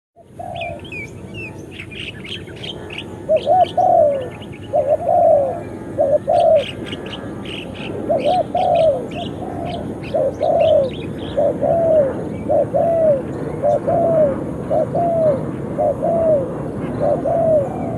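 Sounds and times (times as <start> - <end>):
dove cooing: 0.2 - 17.9
small birds chirping: 0.2 - 17.9
steady background hiss: 0.2 - 17.9.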